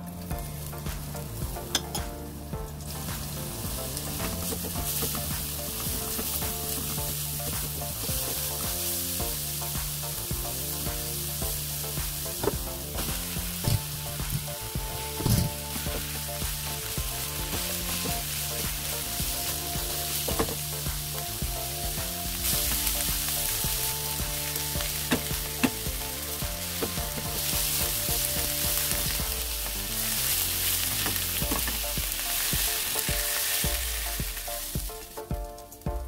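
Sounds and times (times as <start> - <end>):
cabbage sizzling in hot oil: 0.0 - 35.3.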